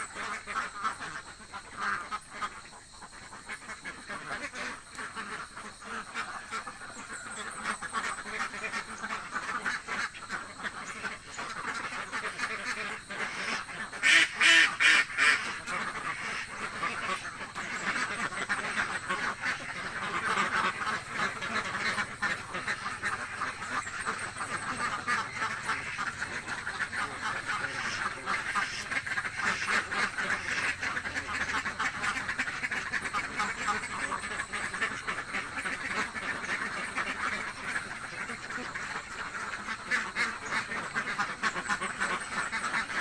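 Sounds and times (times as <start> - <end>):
ducks quacking: 0.0 - 43.0
loud close duck quacks: 7.4 - 43.0.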